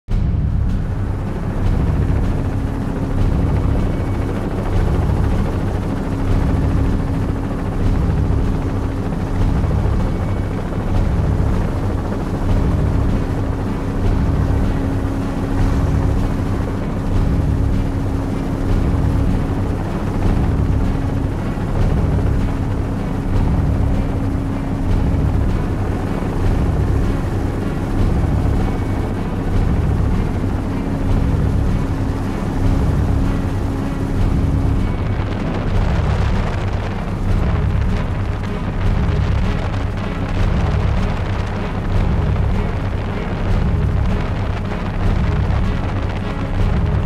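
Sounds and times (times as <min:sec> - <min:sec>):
helicopter rotor and engine: 0:00.1 - 0:47.0.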